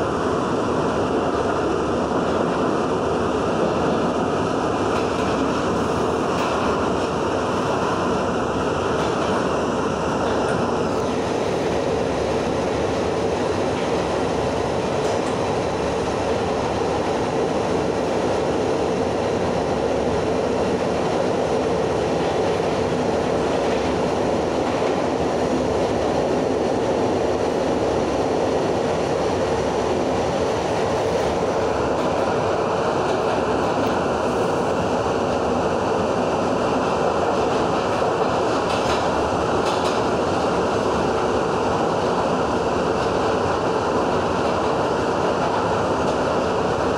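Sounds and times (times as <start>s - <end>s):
subway train wheels rumbling on rails: 0.0s - 46.9s.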